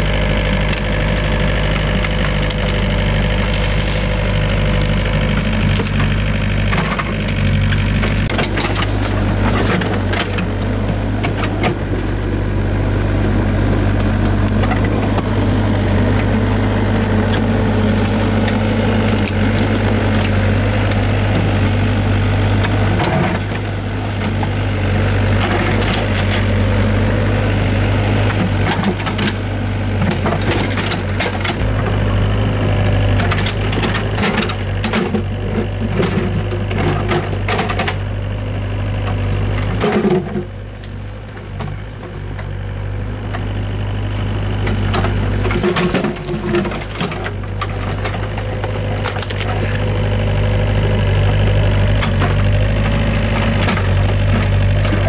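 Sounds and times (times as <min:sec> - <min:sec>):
excavator diesel engine running: 0:00.0 - 0:55.0
digging knocks and clatter: 0:00.2 - 0:55.0.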